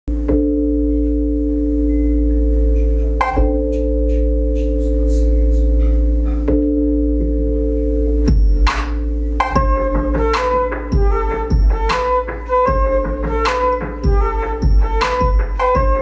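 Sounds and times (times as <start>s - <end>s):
deep bass drone: 0.1s - 16.0s
synthesizer chord: 0.1s - 16.0s.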